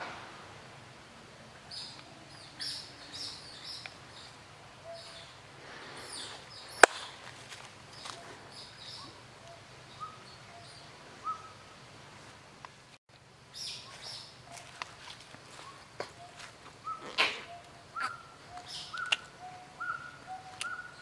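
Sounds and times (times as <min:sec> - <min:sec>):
small birds chirping: 0:01.5 - 0:12.0, 0:12.6 - 0:21.0.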